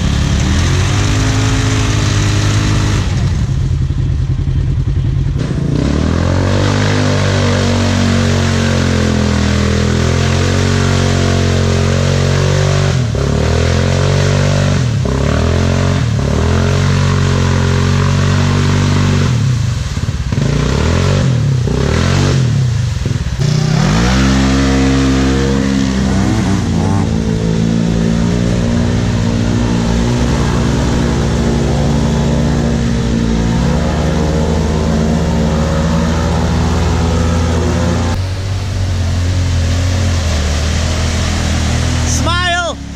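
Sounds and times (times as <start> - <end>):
off-road vehicle engine revving: 0.0 - 42.9.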